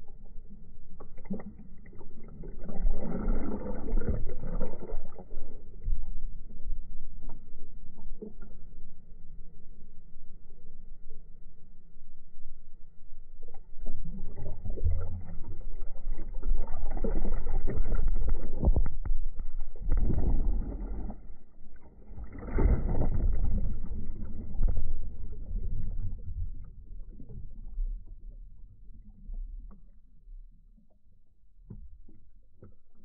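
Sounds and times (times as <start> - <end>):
muffled underwater water churning: 0.0 - 33.0.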